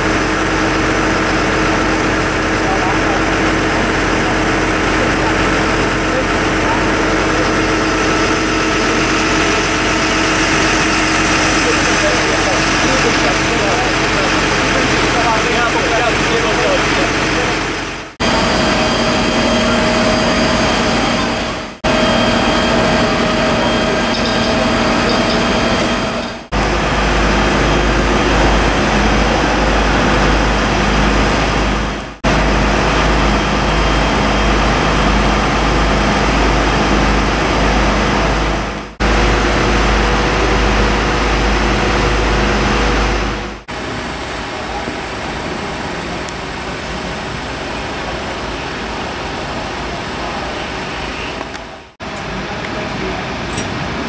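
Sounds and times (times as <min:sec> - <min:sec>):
deep steady rumble: 0:00.0 - 0:45.6
fire engine engines running: 0:00.0 - 0:54.0
street noise: 0:00.0 - 0:54.0.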